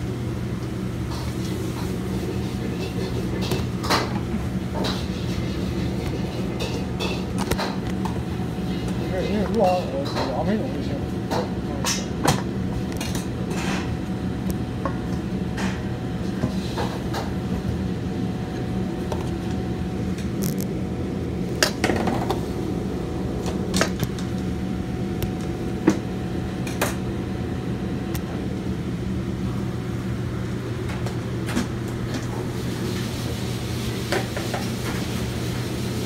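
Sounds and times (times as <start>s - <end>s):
kitchen machine hum: 0.0s - 36.0s.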